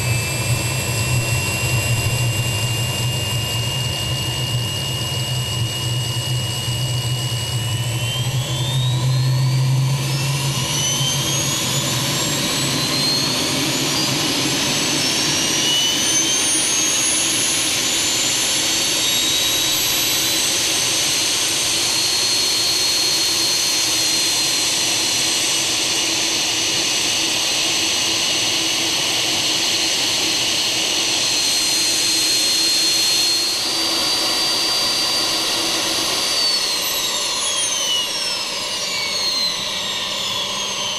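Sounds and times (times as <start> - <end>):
turbojet engine whine: 0.0 - 40.9.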